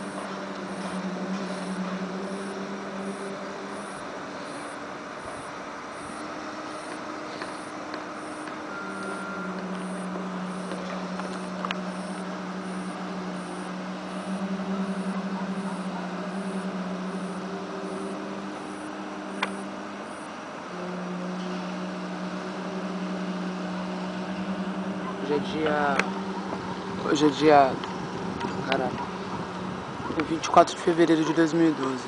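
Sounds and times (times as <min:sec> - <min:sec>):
low horn-like drone: 0:00.0 - 0:32.0.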